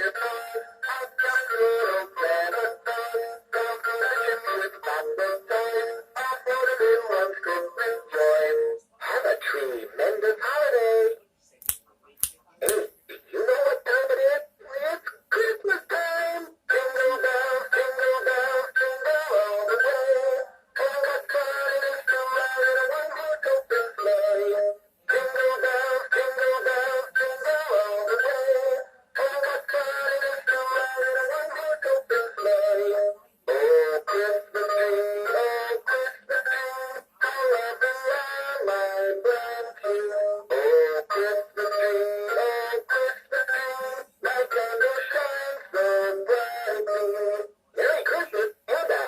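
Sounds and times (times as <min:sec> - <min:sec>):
toy singing through small speaker: 0:00.0 - 0:11.2, 0:12.6 - 0:49.0.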